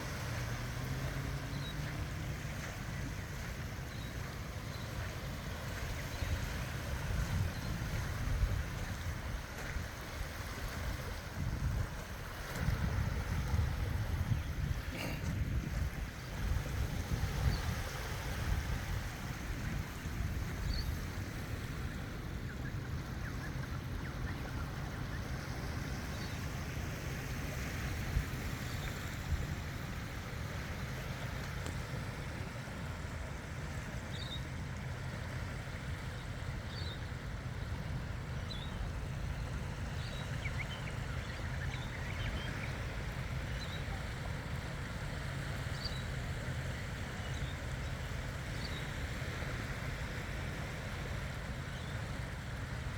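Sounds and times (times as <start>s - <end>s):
water noise with low rumble: 0.0s - 52.9s
wind: 0.0s - 52.9s.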